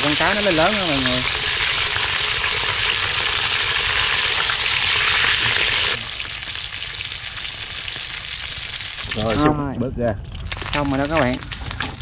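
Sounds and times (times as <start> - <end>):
fish deep-frying in hot oil: 0.0 - 9.4, 10.2 - 12.0.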